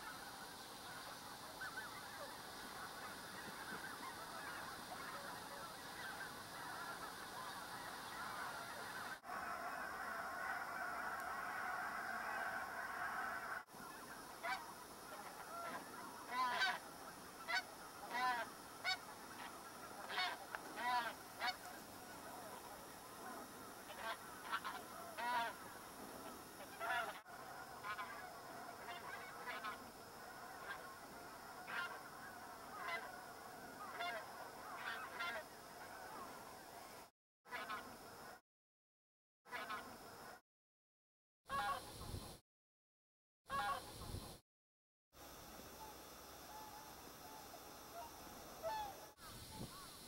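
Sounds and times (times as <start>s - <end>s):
geese honking: 0.0s - 38.4s, 39.5s - 40.4s, 41.5s - 41.8s, 43.5s - 43.9s, 46.5s - 49.9s.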